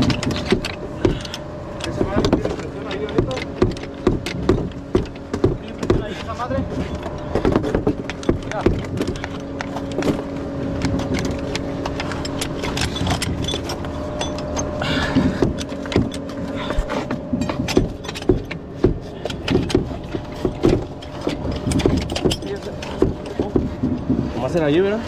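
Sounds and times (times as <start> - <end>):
sharp knocks and clanks: 0.0 - 25.0
truck engine humming: 0.0 - 25.0.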